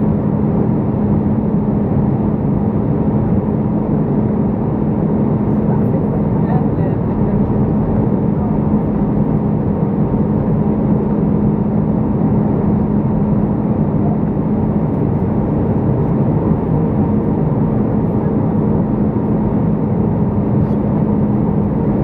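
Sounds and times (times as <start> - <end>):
airplane cabin drone: 0.0 - 22.0.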